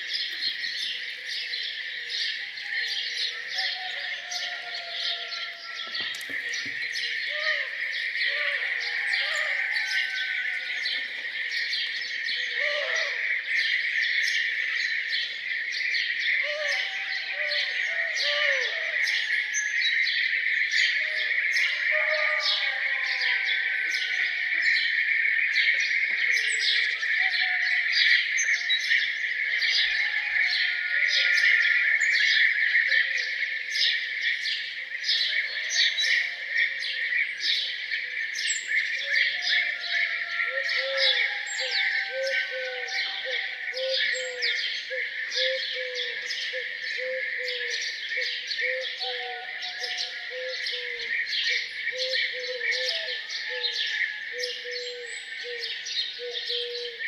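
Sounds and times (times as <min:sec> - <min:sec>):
birds chorus chirping: 0:00.0 - 0:57.0.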